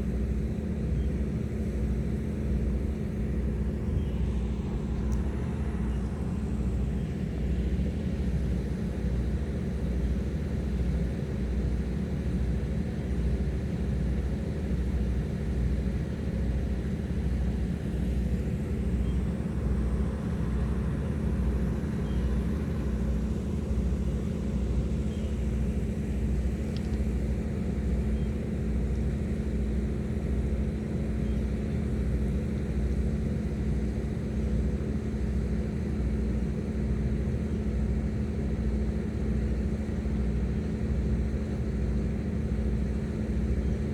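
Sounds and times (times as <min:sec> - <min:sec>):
boat engines droning: 0:00.0 - 0:43.9.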